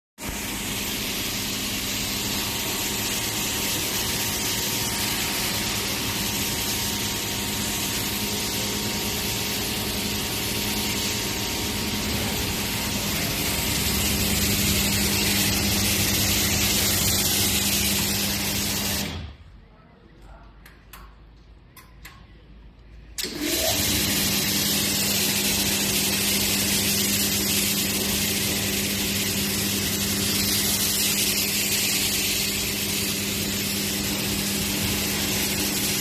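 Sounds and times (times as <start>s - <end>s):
water spraying: 0.2s - 19.2s, 23.4s - 36.0s
pressure washer pump running: 0.2s - 19.4s, 23.2s - 36.0s.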